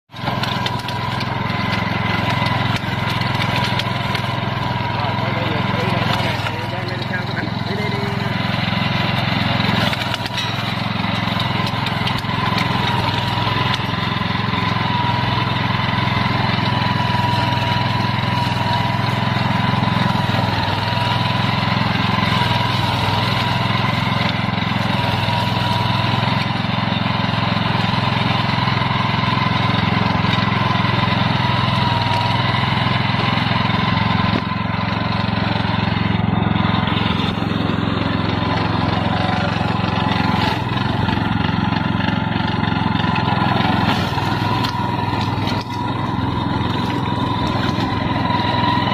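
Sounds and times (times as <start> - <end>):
flail mower running: 0.0 - 48.9
engine high whine: 0.1 - 48.9.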